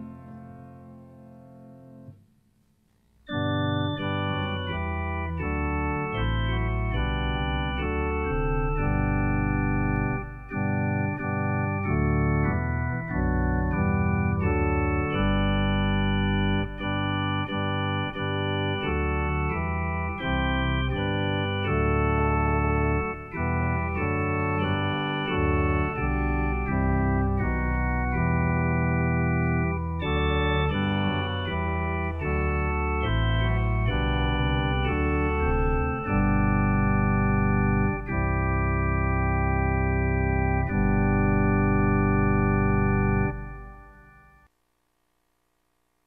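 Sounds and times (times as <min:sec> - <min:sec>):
organ playing slow chords: 0:00.0 - 0:44.5.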